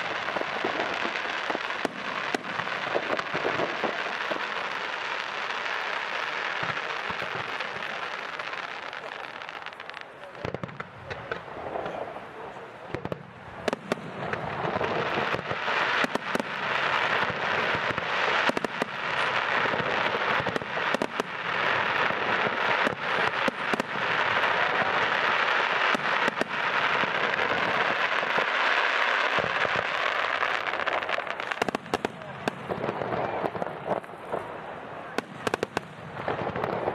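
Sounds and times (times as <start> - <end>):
fireworks bangs: 0.0 - 36.9
fireworks crackling: 0.0 - 36.9.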